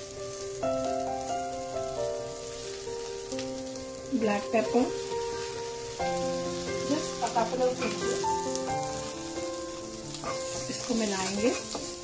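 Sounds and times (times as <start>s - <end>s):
background music with held notes: 0.0s - 12.0s
vegetables sizzling in oil: 0.0s - 12.0s.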